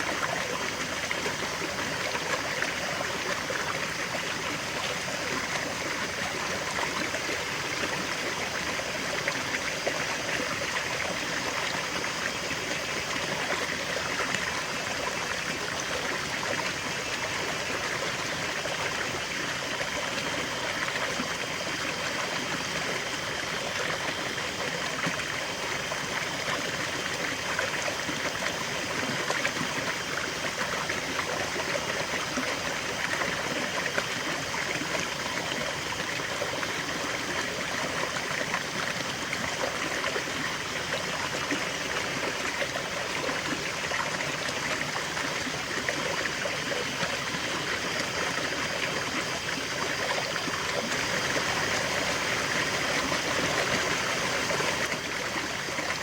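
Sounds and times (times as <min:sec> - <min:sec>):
river babbling over stones: 0:00.0 - 0:56.0.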